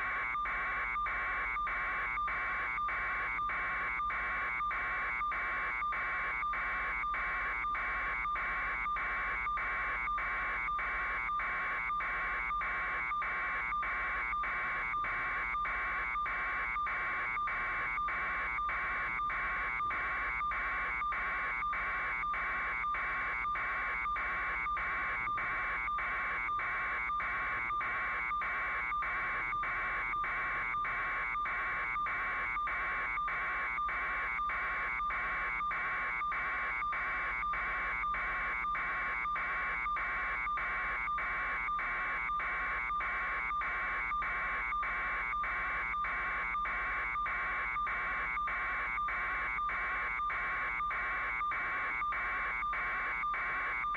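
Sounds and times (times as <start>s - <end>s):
steady buzzing tone: 0.0s - 53.9s.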